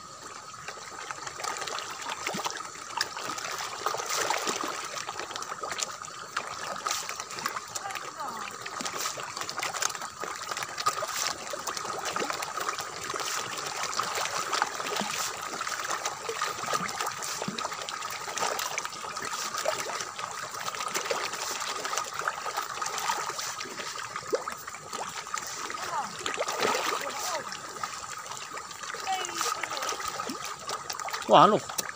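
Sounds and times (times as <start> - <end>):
fish splashing at water surface: 0.2 - 31.9.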